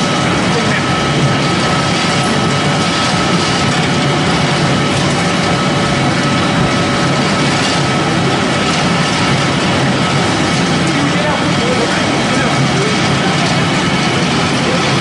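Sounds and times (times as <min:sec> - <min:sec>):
faint steady machine whine: 0:00.0 - 0:15.0
pellet mill running: 0:00.0 - 0:15.0.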